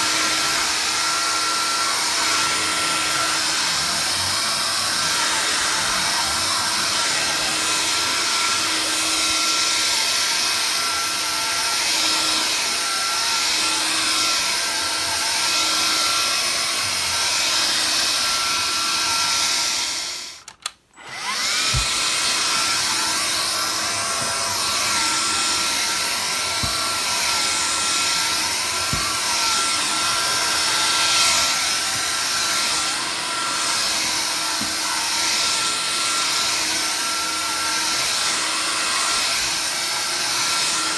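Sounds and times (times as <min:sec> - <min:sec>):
vacuum cleaner whining: 0:00.0 - 0:40.9.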